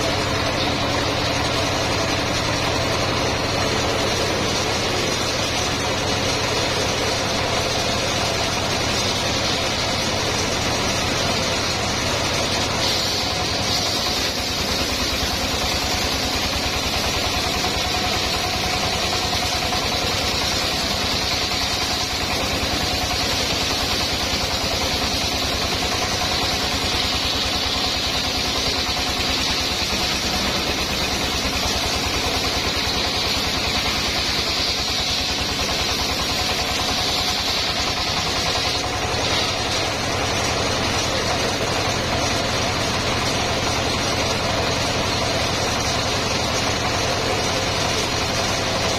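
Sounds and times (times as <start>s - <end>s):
sawmill engine and saw blade: 0.0s - 48.9s.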